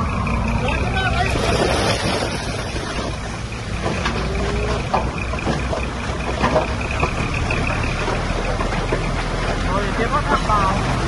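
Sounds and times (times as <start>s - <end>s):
heavy diesel engines running: 0.0s - 11.0s.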